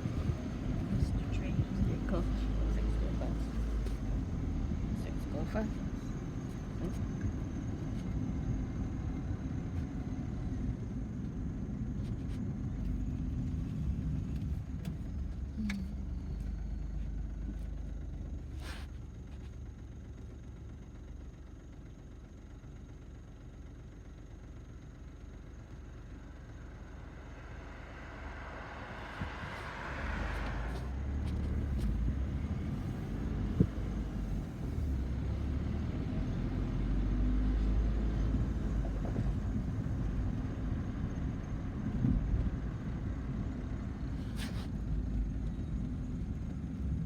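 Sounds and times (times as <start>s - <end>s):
low vehicle rumble: 0.0s - 47.0s.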